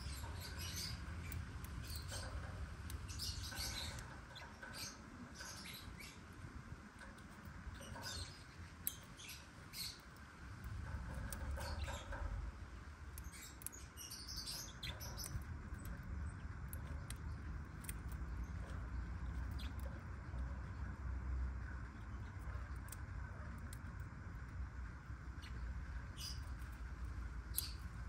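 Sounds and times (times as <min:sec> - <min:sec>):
lovebirds chirping and squeaking: 0:00.0 - 0:28.0.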